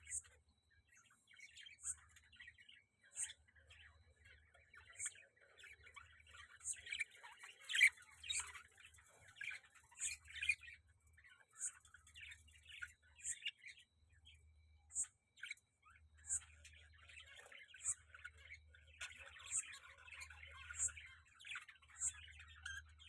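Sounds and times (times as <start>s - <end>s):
budgies chattering and warbling: 0.0s - 23.0s.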